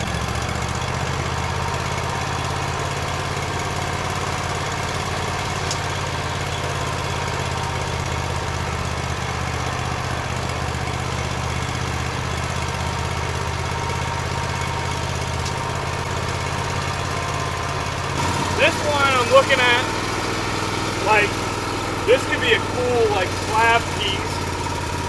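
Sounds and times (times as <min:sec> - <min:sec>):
sawmill engine running: 0:00.0 - 0:25.0.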